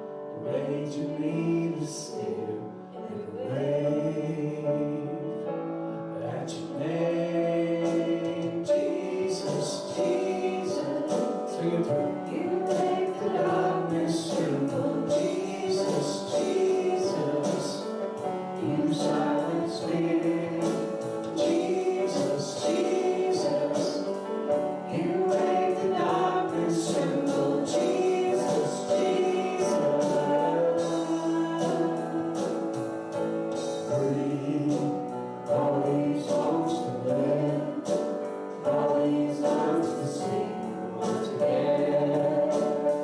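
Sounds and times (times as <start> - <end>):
congregation singing worship song: 0.0 - 43.0
instrumental accompaniment with beat: 7.8 - 43.0.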